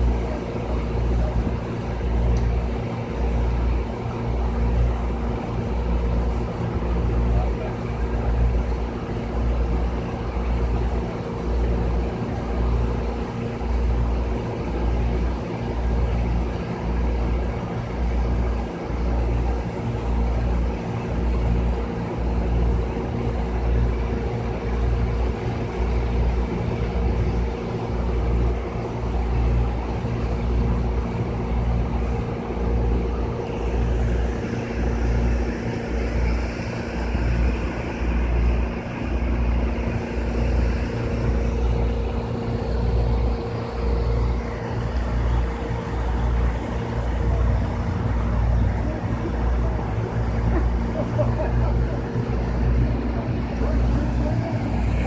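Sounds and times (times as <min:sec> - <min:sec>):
heavy machinery engine hum: 0:00.0 - 0:55.0.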